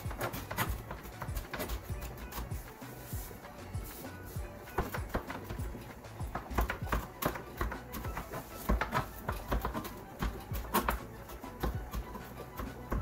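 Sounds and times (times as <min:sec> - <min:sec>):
knife chopping on cutting board: 0:00.0 - 0:13.0.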